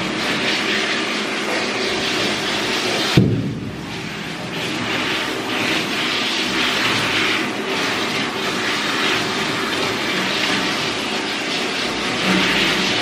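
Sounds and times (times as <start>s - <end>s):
water spraying from hose nozzle: 0.0s - 13.0s.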